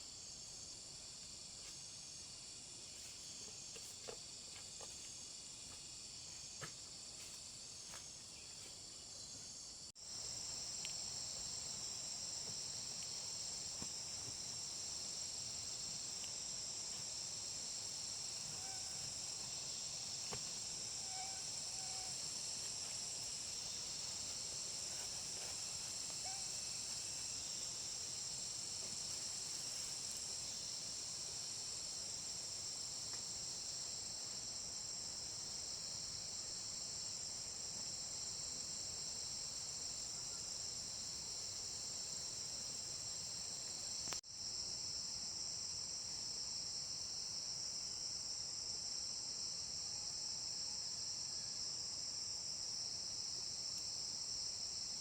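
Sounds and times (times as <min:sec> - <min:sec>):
insects buzzing: 0:00.0 - 0:49.8.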